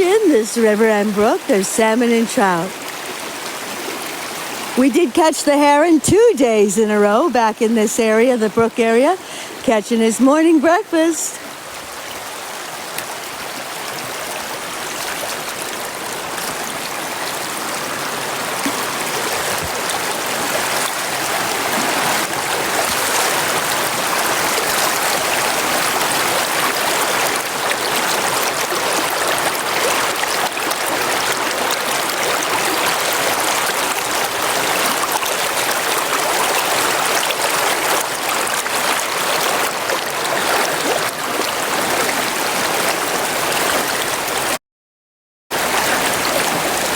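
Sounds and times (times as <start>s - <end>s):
brook water running: 0.0s - 44.6s, 45.5s - 46.9s.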